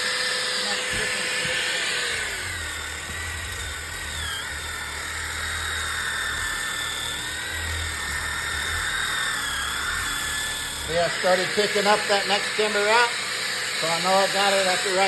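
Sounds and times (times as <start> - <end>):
power tool whining on wood: 0.0 - 15.0.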